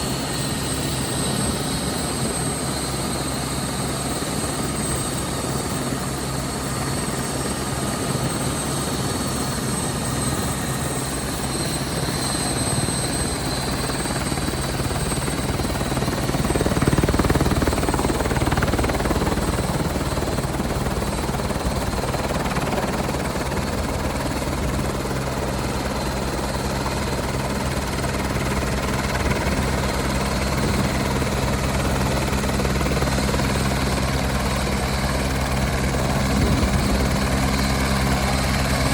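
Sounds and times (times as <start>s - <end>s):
helicopter rotor beat and whine: 0.0s - 38.9s.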